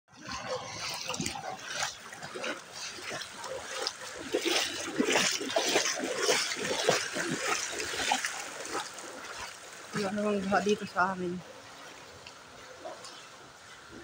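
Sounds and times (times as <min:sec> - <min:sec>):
person wading through water: 0:00.1 - 0:14.0.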